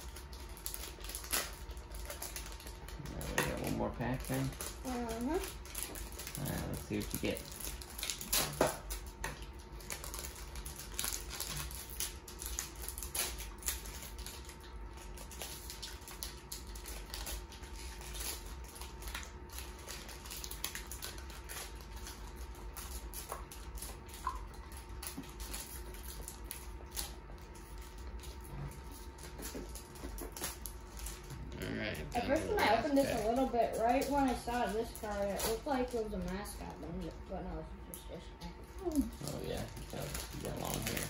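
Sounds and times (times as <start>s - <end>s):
foil wrappers crinkling: 0.0s - 31.4s, 32.1s - 41.0s
faint steady hum: 0.0s - 41.0s.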